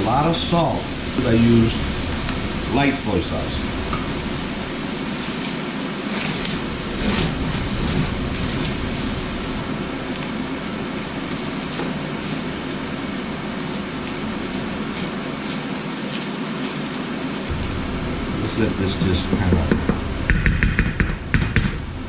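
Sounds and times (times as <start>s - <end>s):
rice sizzling in a pan: 0.0s - 20.4s.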